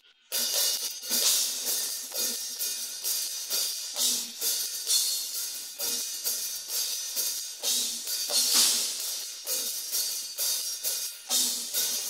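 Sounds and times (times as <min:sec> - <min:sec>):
cymbals struck and ringing: 0:00.3 - 0:12.0.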